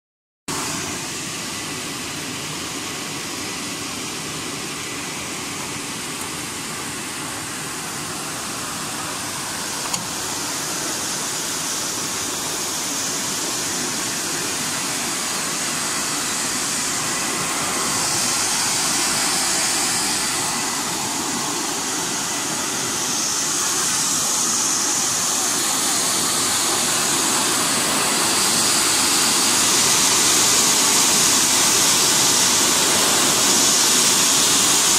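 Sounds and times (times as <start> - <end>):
fans blowing rushing hiss: 0.5 - 34.9.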